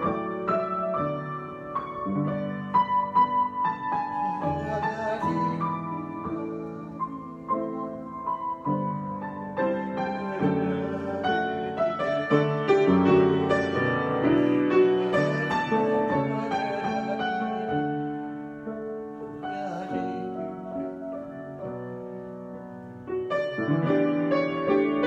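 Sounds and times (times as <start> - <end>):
solo grand piano: 0.0 - 25.0.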